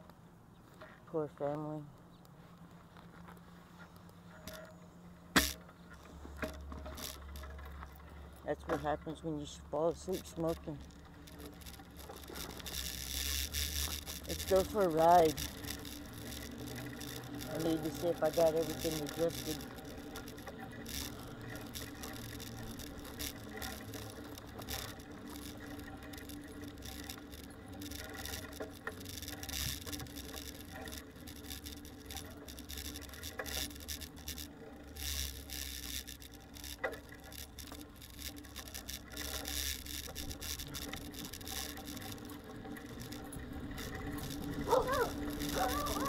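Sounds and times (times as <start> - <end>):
light rattling clicks: 1.4 - 46.0
bicycle chain rubbing and scraping: 2.4 - 46.0.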